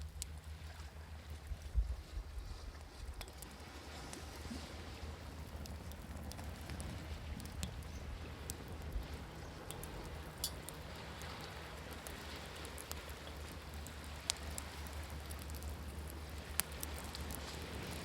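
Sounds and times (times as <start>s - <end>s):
campfire crackling and popping: 0.0s - 1.7s, 3.0s - 18.0s.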